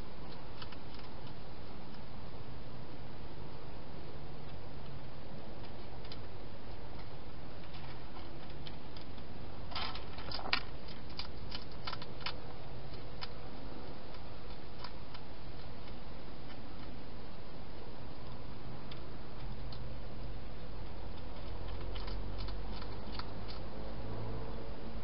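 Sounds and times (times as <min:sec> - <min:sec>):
hedgehog eating clicks and crunches: 0:00.2 - 0:02.1, 0:04.4 - 0:19.9, 0:20.5 - 0:23.8.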